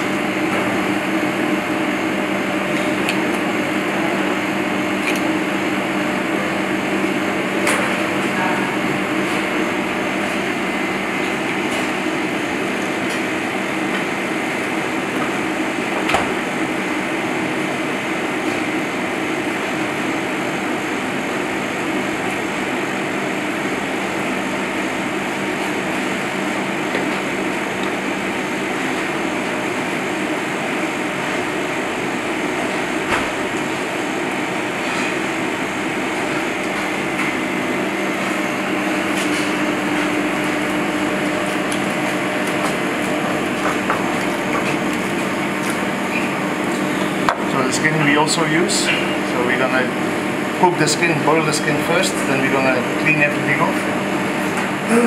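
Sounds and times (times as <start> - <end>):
kitchen ventilation drone: 0.0 - 55.0.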